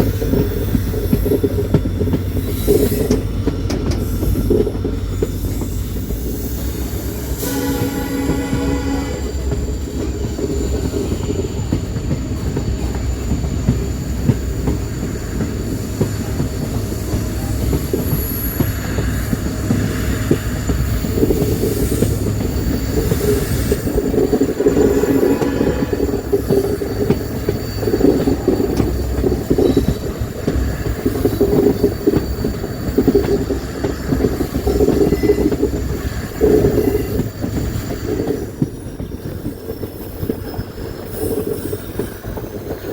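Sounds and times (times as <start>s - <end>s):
train wheels rumbling on rail: 0.0s - 42.9s
wheels squealing: 0.0s - 42.9s.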